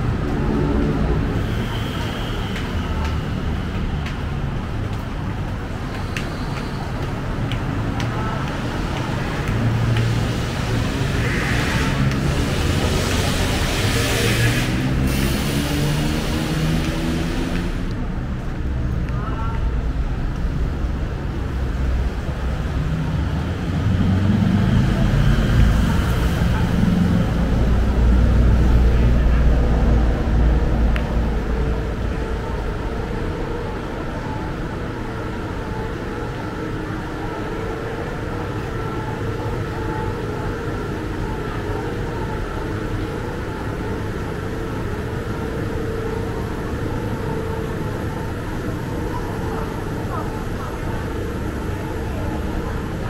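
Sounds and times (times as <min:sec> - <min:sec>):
steady traffic hum: 0:00.0 - 0:53.0.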